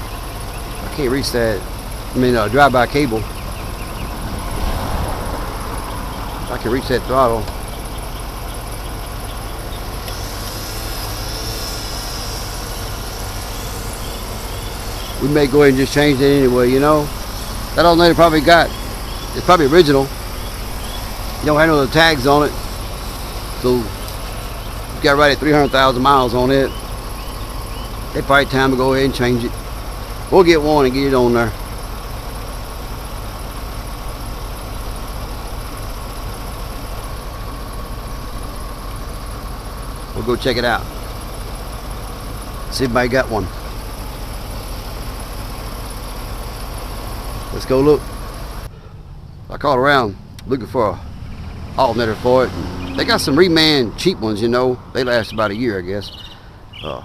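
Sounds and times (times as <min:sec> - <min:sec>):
faint high whine: 0:00.0 - 0:49.0
truck engine idling: 0:00.0 - 0:57.0.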